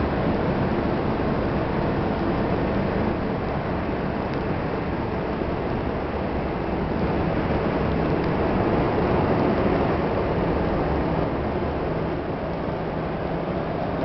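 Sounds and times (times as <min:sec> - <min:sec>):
aircraft engines: 0:00.0 - 0:14.0.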